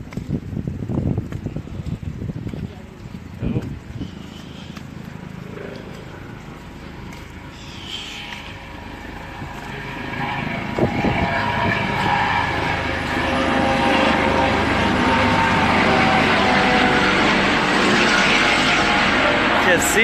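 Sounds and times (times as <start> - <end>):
helicopter flying low past: 2.9 - 20.0.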